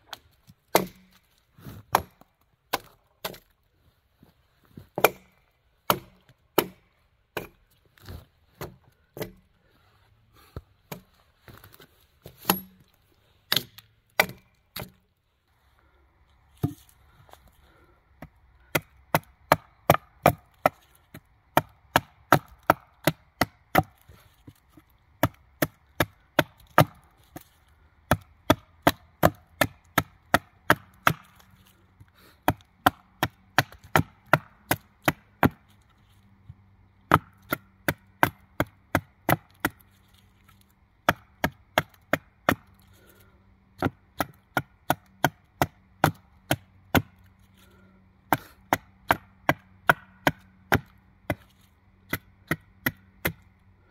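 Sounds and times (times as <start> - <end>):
hatchet chopping wood: 0.1 - 3.5, 4.9 - 7.7, 8.6 - 9.5, 10.9 - 15.0, 16.6 - 16.9, 17.7 - 35.8, 37.0 - 53.5.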